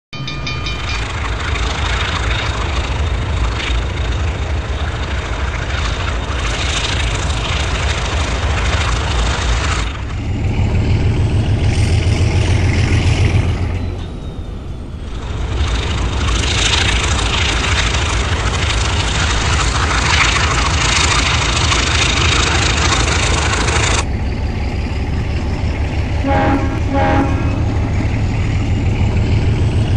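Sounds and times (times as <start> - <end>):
diesel locomotive rumble: 0.2 - 29.9
low engine throb: 0.2 - 29.9.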